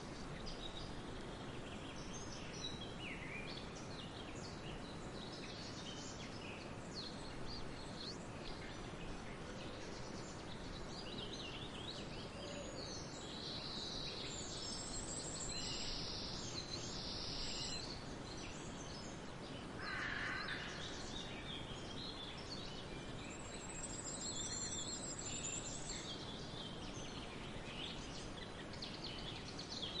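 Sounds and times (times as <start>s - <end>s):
steady outdoor hiss: 0.0s - 30.0s.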